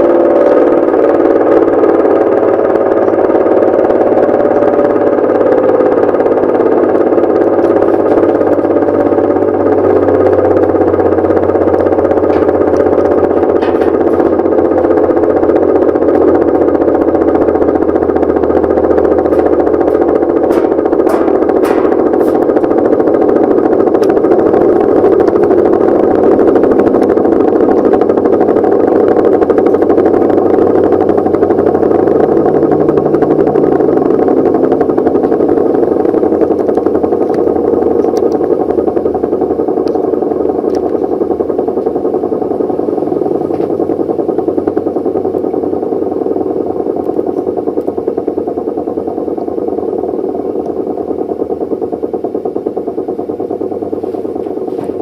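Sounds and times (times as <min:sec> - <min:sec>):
air-raid siren wailing: 0:00.0 - 0:52.1.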